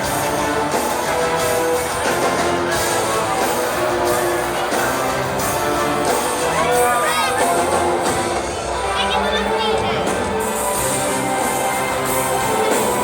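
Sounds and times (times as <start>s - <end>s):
band music with strummed guitar: 0.0s - 13.0s.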